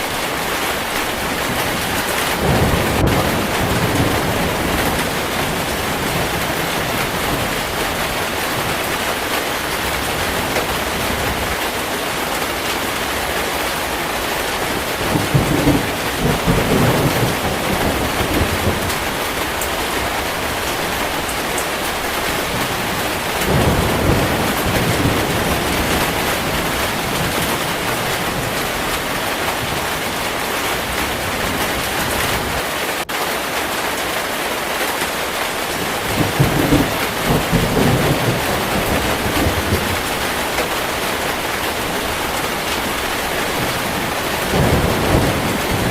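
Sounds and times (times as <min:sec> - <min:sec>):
heavy rain falling: 0:00.0 - 0:45.9
thunder rolling: 0:00.9 - 0:11.6, 0:13.8 - 0:32.6, 0:35.7 - 0:45.9.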